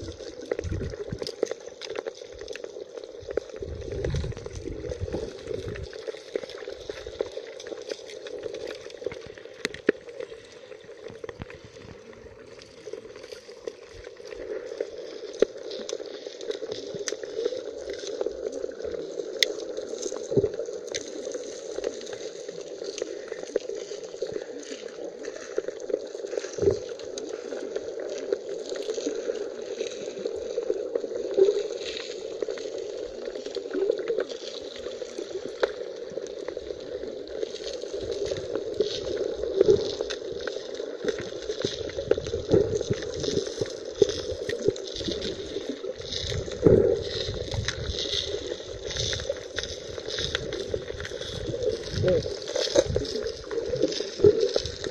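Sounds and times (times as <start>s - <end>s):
muffled underwater hum: 0.0s - 54.9s
small underwater clicks and crackles: 0.0s - 54.9s.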